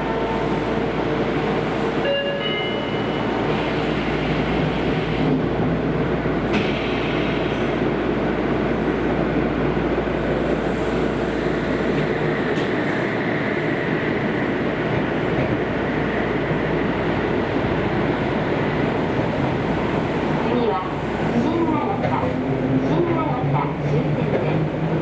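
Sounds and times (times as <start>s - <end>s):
train wheels and motor rumble: 2.8s - 25.0s.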